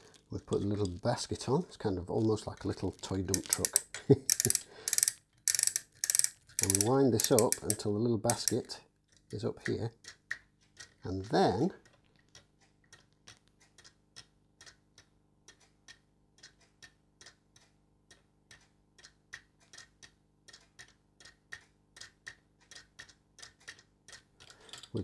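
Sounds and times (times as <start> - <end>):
clock ticking faintly: 0.5 - 25.0.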